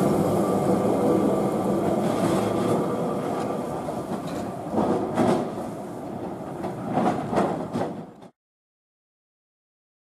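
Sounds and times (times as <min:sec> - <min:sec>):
tram wheels rumbling: 0:00.0 - 0:08.4
wheels clacking on rails: 0:00.0 - 0:08.4.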